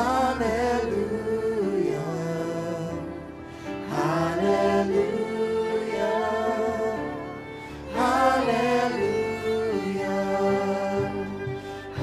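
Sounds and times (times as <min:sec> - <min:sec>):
person singing worship song: 0:00.0 - 0:12.0
string and keyboard chords: 0:00.0 - 0:12.0.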